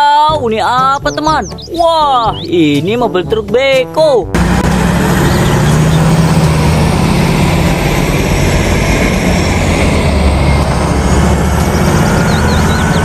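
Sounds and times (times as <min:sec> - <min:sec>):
heavy diesel machinery rumbling: 0:00.5 - 0:13.0.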